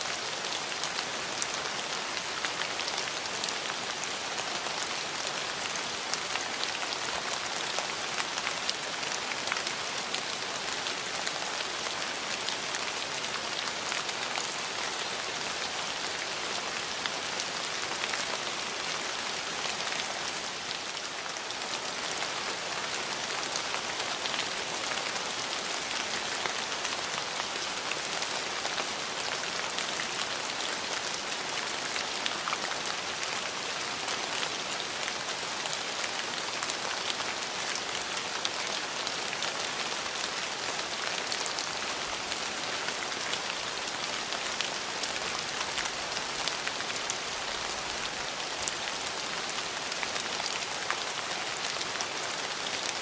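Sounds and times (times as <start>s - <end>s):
rain on hard surfaces: 0.0s - 53.0s.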